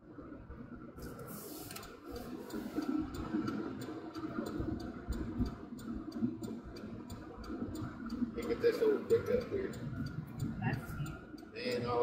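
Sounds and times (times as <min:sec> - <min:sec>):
engine and road noise: 0:00.0 - 0:12.0
rapid ticking: 0:01.0 - 0:12.0.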